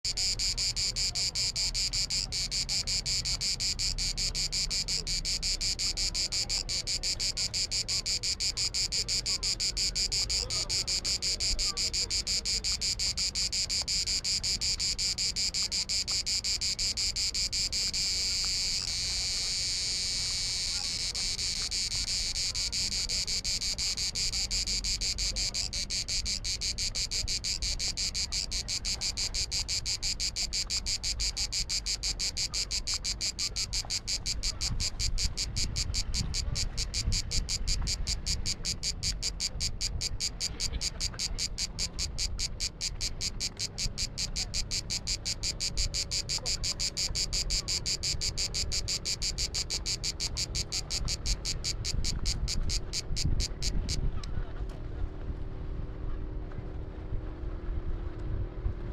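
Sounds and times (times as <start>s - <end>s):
cicada clicking and buzzing: 0.1s - 54.2s.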